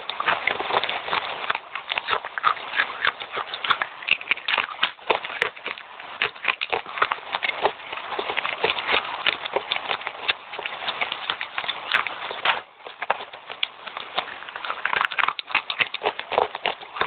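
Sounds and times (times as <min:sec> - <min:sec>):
clay chips being chewed: 0:00.0 - 0:17.0.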